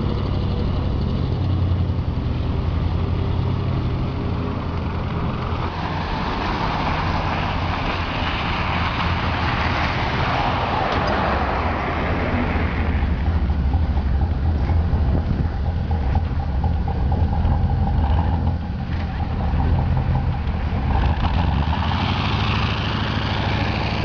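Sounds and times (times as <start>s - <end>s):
broad rushing noise: 0.0s - 24.0s
bus engine rumbling: 0.0s - 24.0s.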